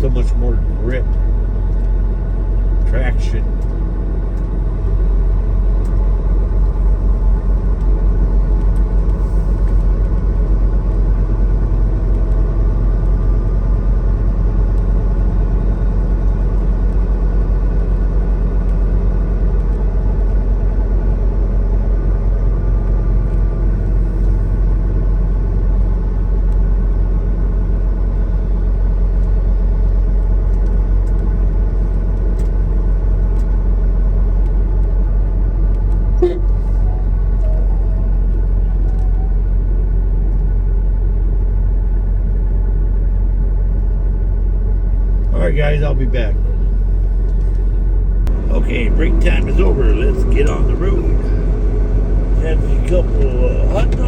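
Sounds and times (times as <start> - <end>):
diesel truck engine rumbling: 0.0 - 54.0.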